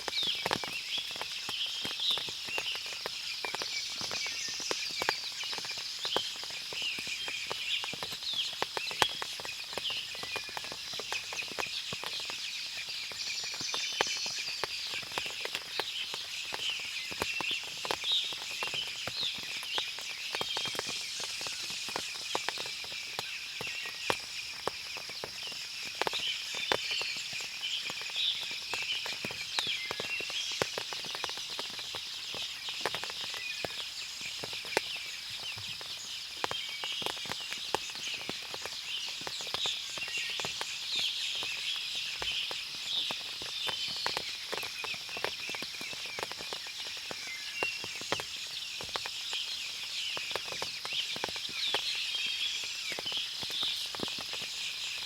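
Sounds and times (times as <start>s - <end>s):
birds chirping: 0.0s - 55.0s
water dripping from trees: 0.0s - 55.0s.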